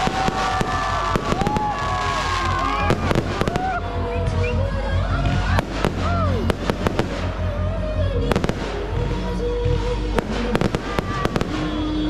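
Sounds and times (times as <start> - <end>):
fireworks bangs and crackles: 0.0 - 3.8, 5.2 - 7.5, 8.2 - 12.0
background music: 0.0 - 12.0.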